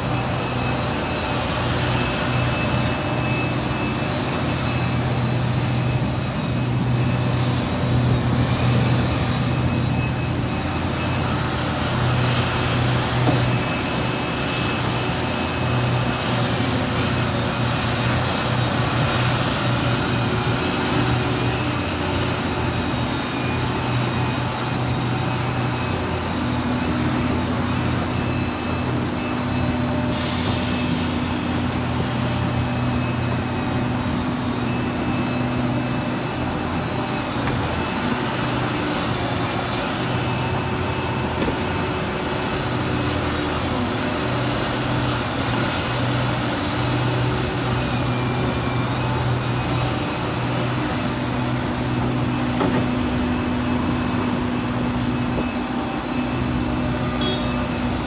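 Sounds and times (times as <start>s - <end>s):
excavator diesel engine drone: 0.0s - 58.0s.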